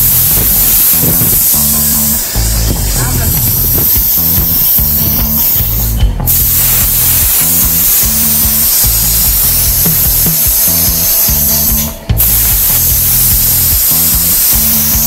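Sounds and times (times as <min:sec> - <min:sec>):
drive motors humming: 0:00.0 - 0:15.0
plasma arc hissing: 0:00.0 - 0:15.0.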